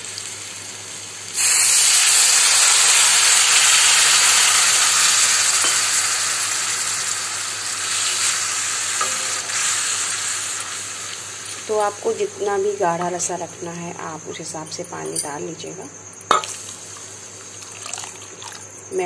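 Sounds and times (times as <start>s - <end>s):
sizzling hiss of steam: 0.0s - 13.4s, 16.3s - 18.8s.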